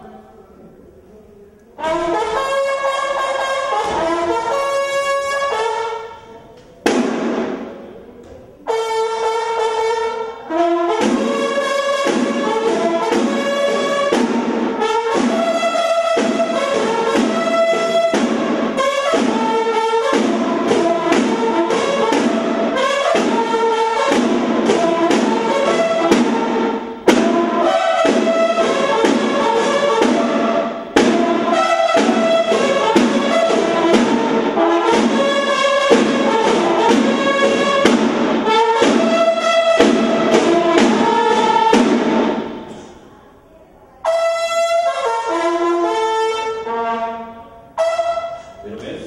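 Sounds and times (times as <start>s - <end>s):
brass band music led by trumpets: 1.8s - 43.0s, 44.0s - 49.0s.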